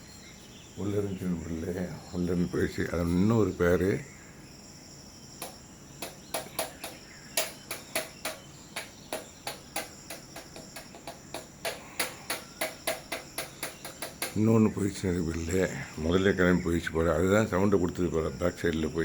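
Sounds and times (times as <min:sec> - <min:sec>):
bird chirping: 0:00.0 - 0:19.0
crickets trilling: 0:00.0 - 0:19.0.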